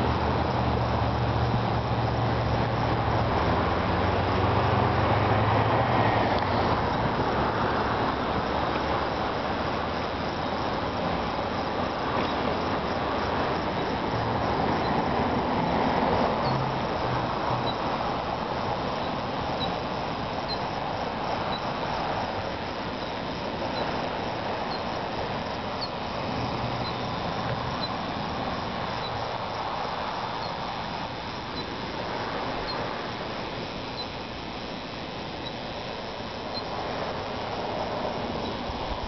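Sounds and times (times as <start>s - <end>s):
rushing storm air: 0.0s - 39.0s.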